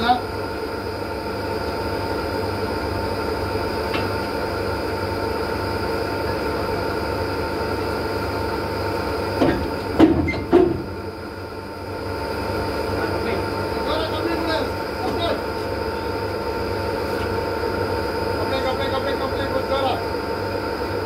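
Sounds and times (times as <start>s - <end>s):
mechanical hum of standing train: 0.0s - 21.0s.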